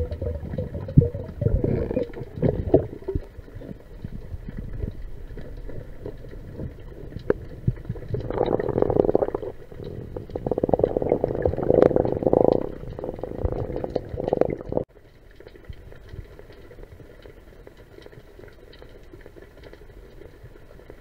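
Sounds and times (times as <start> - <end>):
underwater bubbling and gurgling: 0.0 - 21.0.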